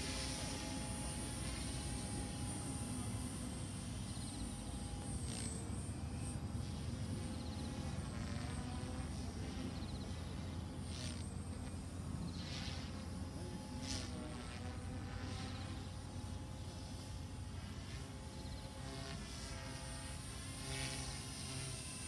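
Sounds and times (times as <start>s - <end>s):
rc helicopter whining: 0.0s - 22.0s.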